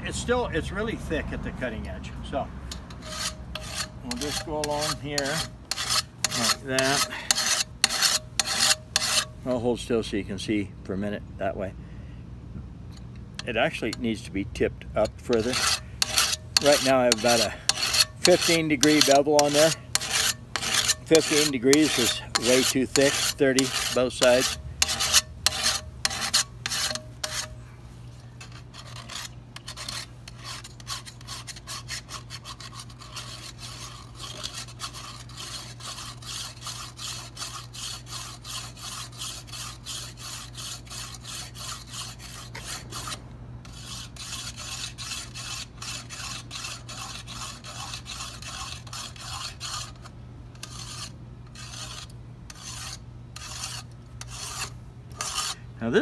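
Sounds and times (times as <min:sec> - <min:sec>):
knife sharpener scraping metal: 0:02.7 - 0:09.4, 0:15.0 - 0:27.6, 0:28.4 - 0:55.6.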